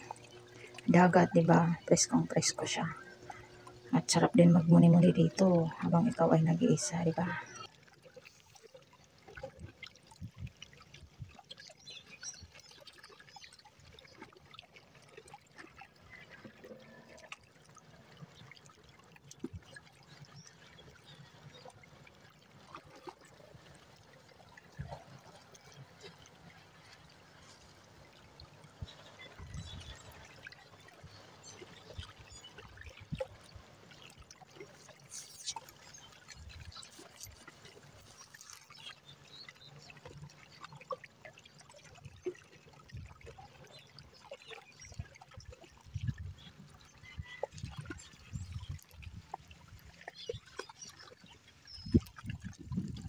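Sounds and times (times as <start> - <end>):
small splashes: 0.0 - 53.0
small waves lapping at shoreline: 0.0 - 53.0.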